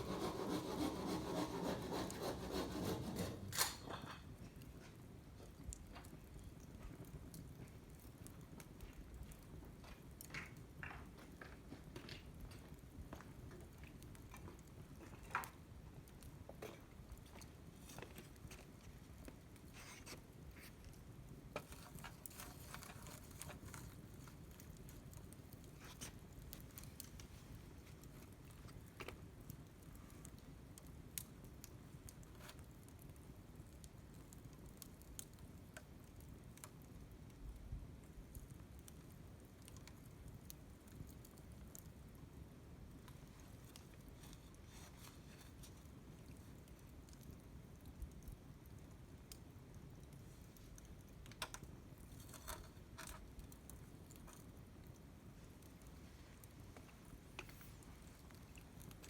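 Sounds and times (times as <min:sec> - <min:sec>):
campfire crackling and popping: 0:03.5 - 0:59.0
low rumble of flames: 0:03.5 - 0:59.0.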